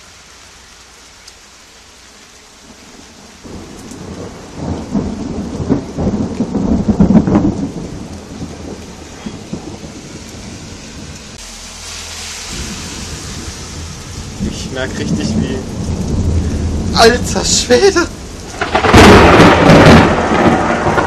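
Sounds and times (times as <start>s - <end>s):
steady rain hissing: 0.0s - 21.0s
thunder rumbling and crackling: 2.6s - 11.4s, 12.0s - 21.0s.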